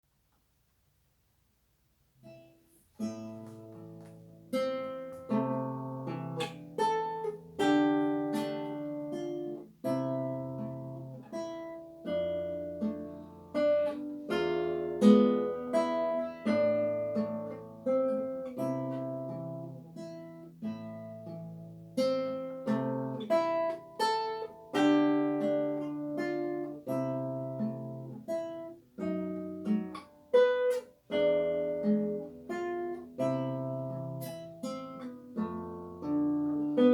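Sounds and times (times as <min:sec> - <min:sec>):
solo classical guitar: 0:00.2 - 0:36.9.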